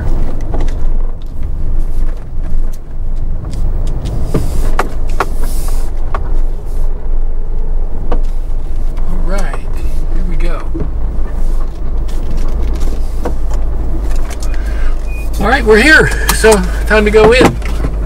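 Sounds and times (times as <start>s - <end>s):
car cabin low rumble: 0.0s - 18.0s.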